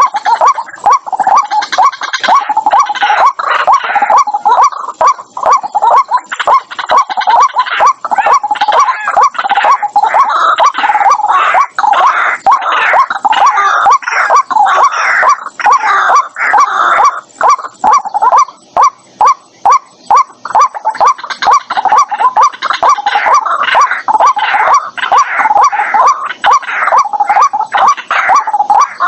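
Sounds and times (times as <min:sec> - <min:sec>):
harsh overlapping bird calls: 0:00.0 - 0:29.0
waterhen calling: 0:00.0 - 0:29.0.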